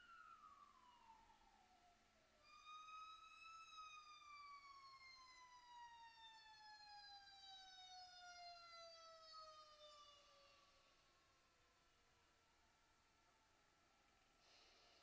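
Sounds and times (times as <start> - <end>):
faint fire engine siren wailing: 0.0 - 13.9.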